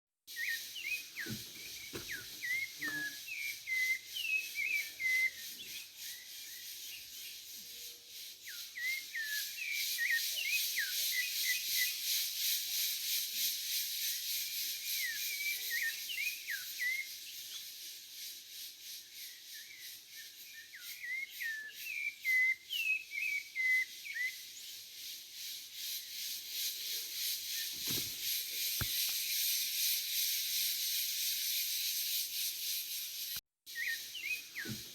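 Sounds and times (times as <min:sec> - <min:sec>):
cicadas buzzing: 0:00.3 - 0:34.9.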